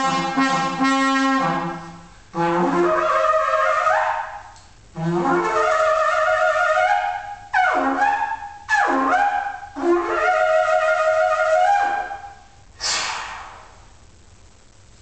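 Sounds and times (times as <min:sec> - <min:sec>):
bronze war trumpet blasts: 0:00.0 - 0:12.5.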